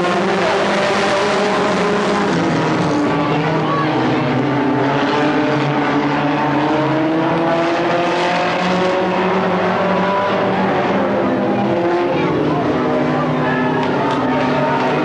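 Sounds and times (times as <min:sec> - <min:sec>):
stock car engines accelerating: 0:00.0 - 0:15.0.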